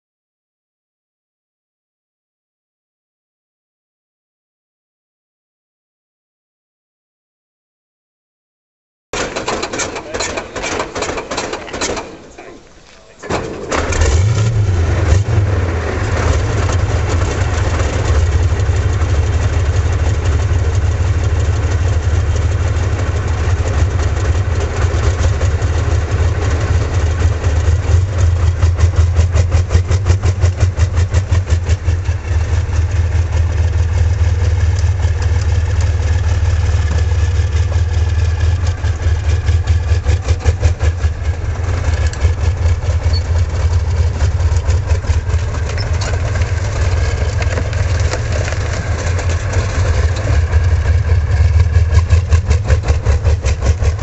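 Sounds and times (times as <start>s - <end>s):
tank diesel engine running: 9.2s - 54.0s.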